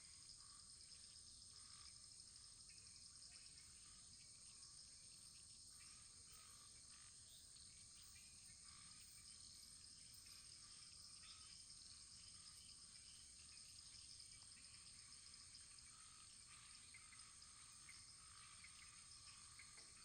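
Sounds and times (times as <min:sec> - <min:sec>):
cricket chorus chirring: 0:00.0 - 0:20.0.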